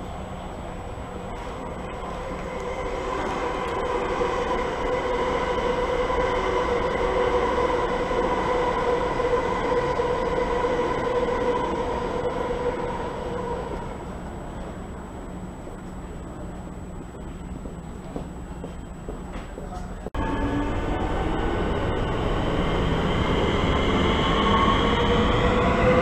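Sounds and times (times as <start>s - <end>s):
electric train running by: 0.0s - 26.0s.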